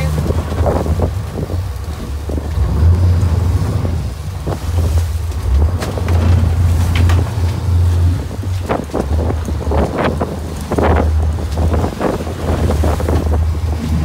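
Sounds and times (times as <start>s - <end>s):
boat engine under way: 0.0s - 14.0s
water rushing past hull: 0.0s - 14.0s
wind rumbling on microphone: 0.0s - 14.0s.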